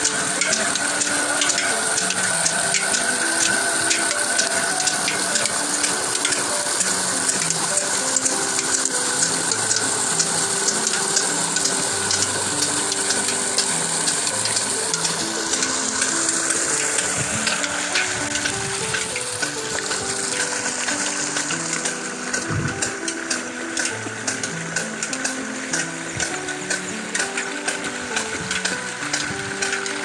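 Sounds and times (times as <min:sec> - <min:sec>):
gear mechanism clicking and clattering: 0:00.0 - 0:30.0
melody of short notes: 0:00.0 - 0:30.0.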